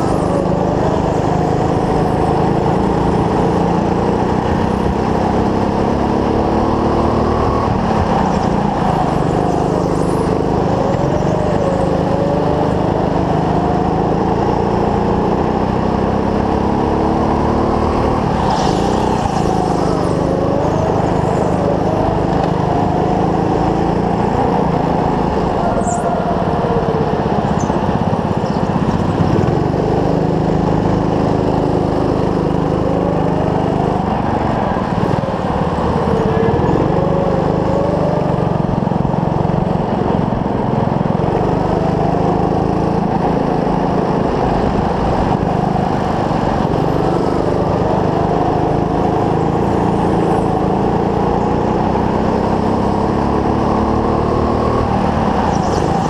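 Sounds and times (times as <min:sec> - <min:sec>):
go-kart engine running hard: 0:00.0 - 0:56.0
other karts running: 0:00.0 - 0:56.0.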